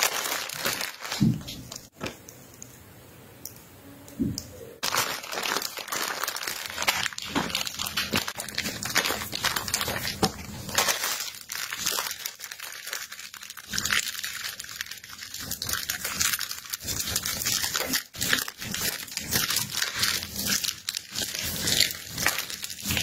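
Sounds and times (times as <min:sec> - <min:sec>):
plastic bag crinkling: 0:00.0 - 0:02.2, 0:04.8 - 0:23.0.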